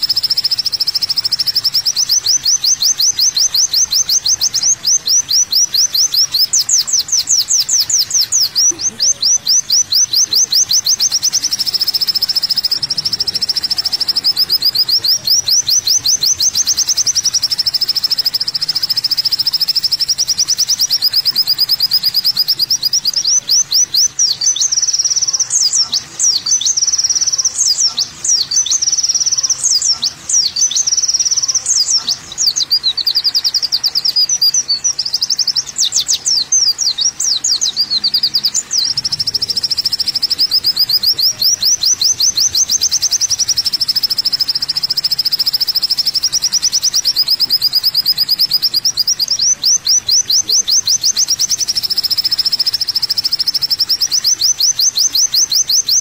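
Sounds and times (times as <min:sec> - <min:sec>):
bird chirps and trills: 0:00.0 - 0:56.0.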